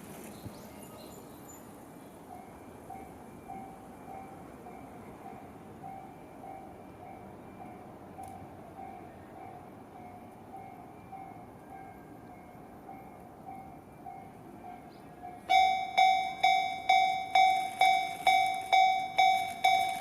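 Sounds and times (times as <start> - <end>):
level crossing warning bell: 0.9 - 20.0.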